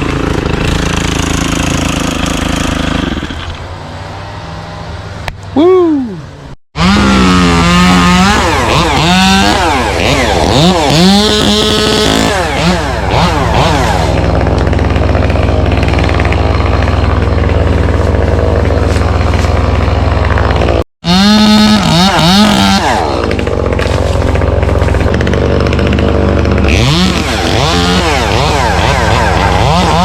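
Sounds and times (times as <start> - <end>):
chainsaw revving while cutting: 0.0 - 5.2, 6.8 - 30.0.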